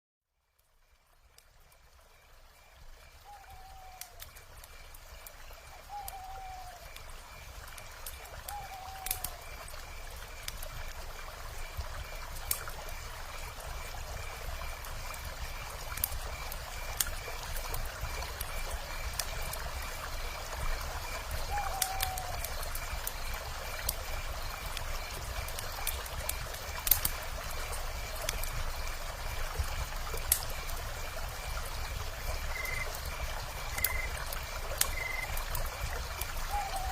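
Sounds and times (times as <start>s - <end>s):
wood fire crackling and popping: 3.5s - 36.9s.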